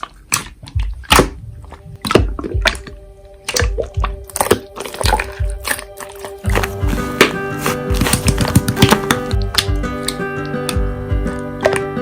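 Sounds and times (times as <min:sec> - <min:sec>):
slime clicking and popping: 0:00.0 - 0:10.8.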